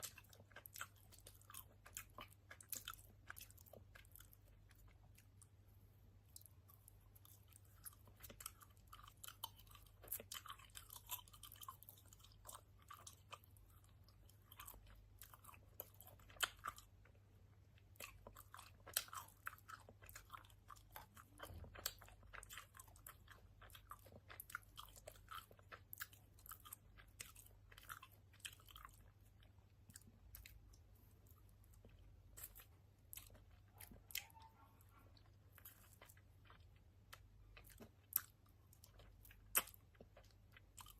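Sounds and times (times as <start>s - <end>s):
lip-smacking chewing of candy: 0.0s - 5.6s, 6.2s - 40.9s
faint low hum: 0.0s - 40.9s.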